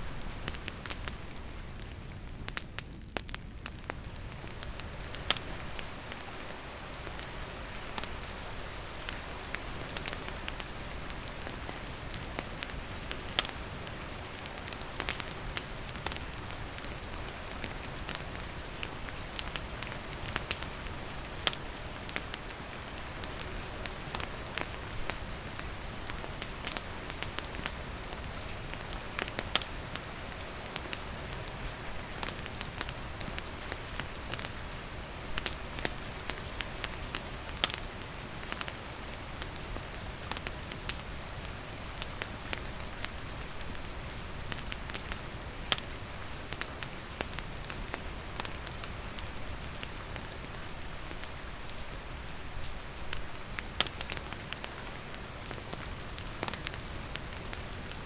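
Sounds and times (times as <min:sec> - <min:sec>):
rain hiss: 0:00.0 - 0:02.8, 0:03.7 - 0:58.0
campfire crackling and popping: 0:00.0 - 0:58.0.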